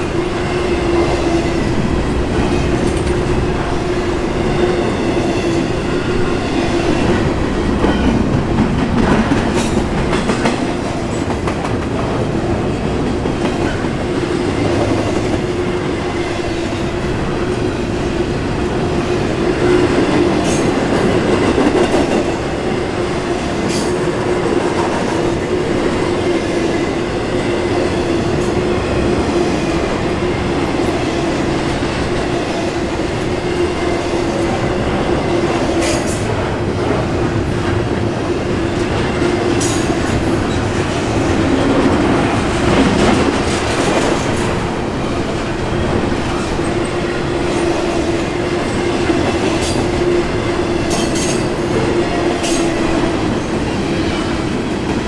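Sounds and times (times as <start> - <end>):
freight train wheels rumbling and clattering: 0.0 - 55.0.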